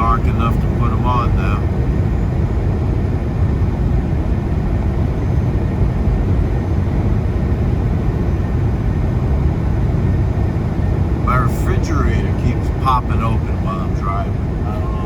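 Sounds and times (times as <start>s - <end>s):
road rumble: 0.0s - 15.0s
truck engine drone: 0.0s - 15.0s.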